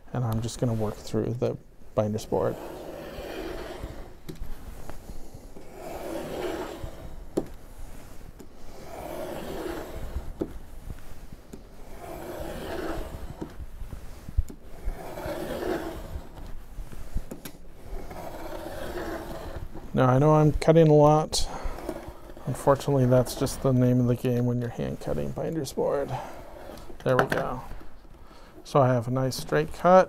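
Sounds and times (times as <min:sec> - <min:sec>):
utility knife scraping board: 0:00.4 - 0:01.4, 0:02.0 - 0:30.0.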